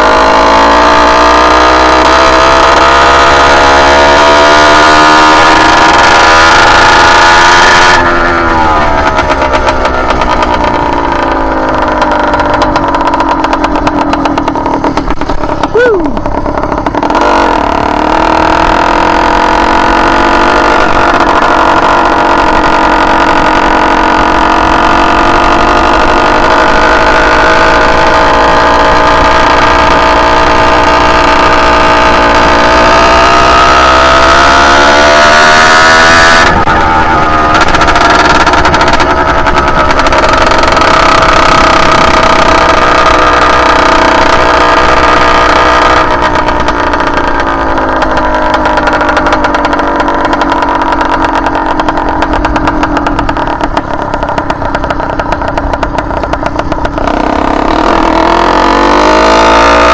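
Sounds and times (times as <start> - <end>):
two-stroke engine running: 0.0 - 59.9.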